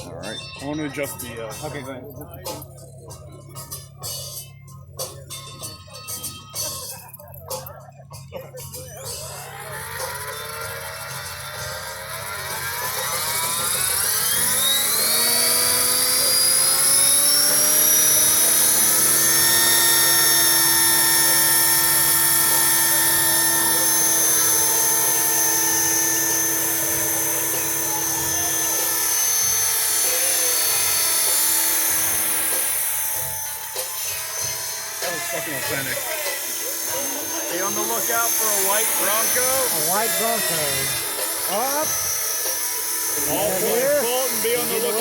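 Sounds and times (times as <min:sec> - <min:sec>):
model helicopter rotor whine: 0:00.0 - 0:45.0.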